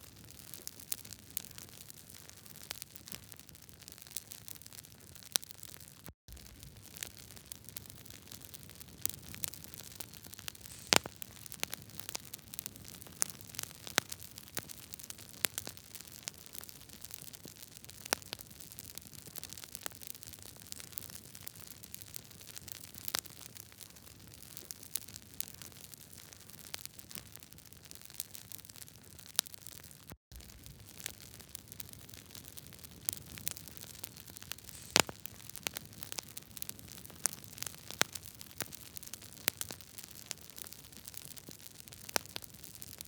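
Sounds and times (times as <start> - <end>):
campfire crackling and popping: 0.2 - 23.6, 24.4 - 43.0.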